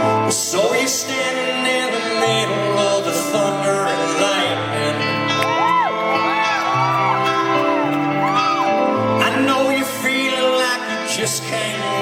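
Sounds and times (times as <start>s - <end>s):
live country band playing: 0.0s - 12.0s.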